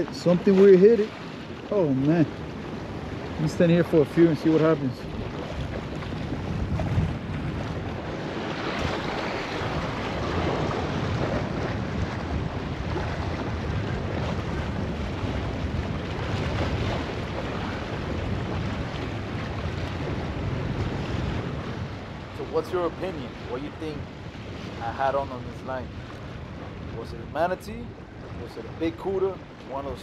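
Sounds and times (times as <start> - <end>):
surf and waves: 0.0 - 30.0
wind buffeting microphone: 0.0 - 30.0.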